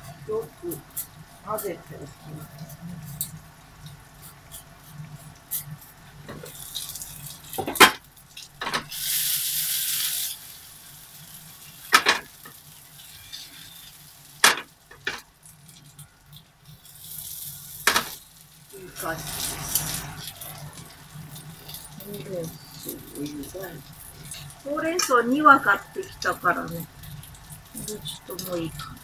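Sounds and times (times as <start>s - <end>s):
frying pan sizzling: 0.0s - 29.0s.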